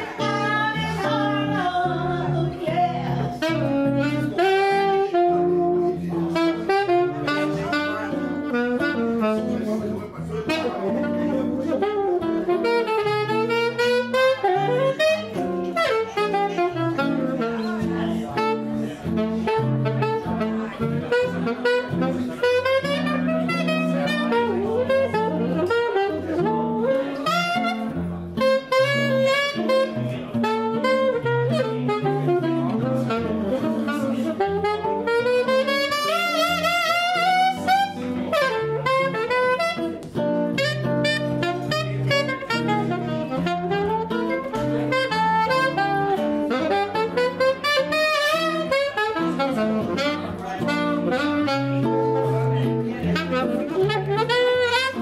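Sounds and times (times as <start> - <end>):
alto saxophone jazz solo: 0.0 - 55.0
guitar chords: 0.0 - 55.0.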